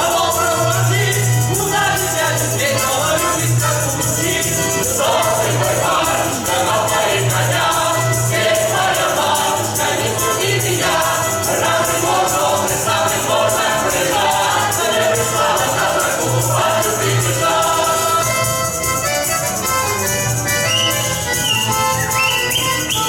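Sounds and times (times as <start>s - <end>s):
choir singing folk song: 0.0s - 23.0s
pulsing rhythmic accompaniment: 0.0s - 23.0s.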